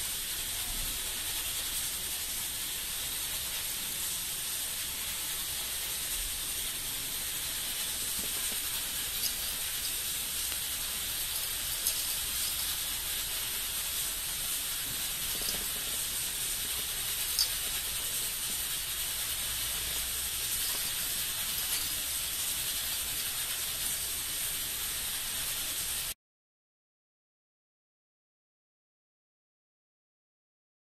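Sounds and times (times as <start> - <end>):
high-pitched recording hiss: 0.0 - 26.2.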